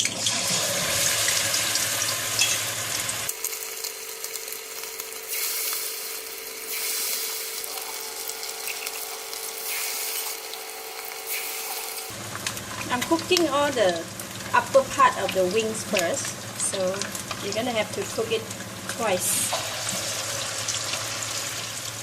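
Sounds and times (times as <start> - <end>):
chicken deep-frying in hot oil: 0.0 - 22.0.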